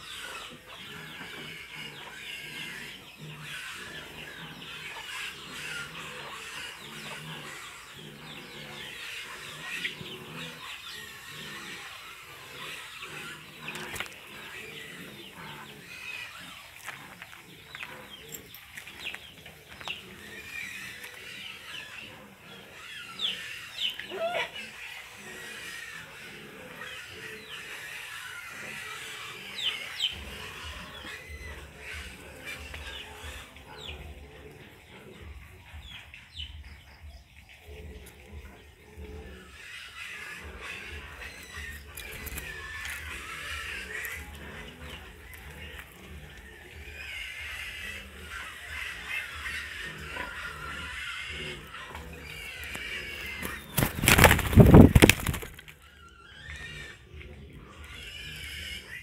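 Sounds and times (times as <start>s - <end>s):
lower steady bird calls: 0.0s - 59.0s.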